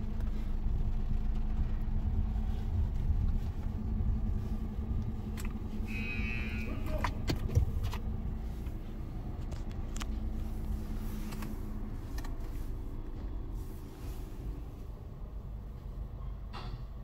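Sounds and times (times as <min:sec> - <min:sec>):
low rumble of car wash: 0:00.0 - 0:17.0.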